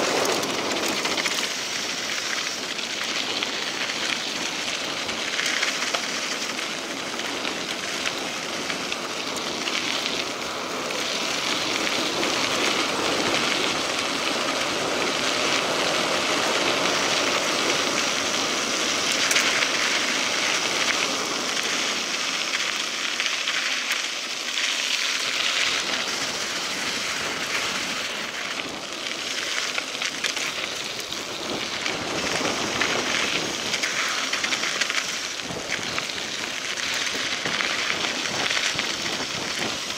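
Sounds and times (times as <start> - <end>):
bike tyres rolling on gravel: 0.0 - 39.9.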